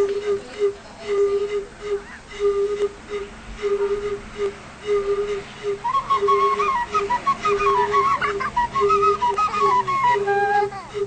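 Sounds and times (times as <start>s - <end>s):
flute-like melody: 0.0s - 11.0s
wind instruments playing riff: 0.0s - 11.0s.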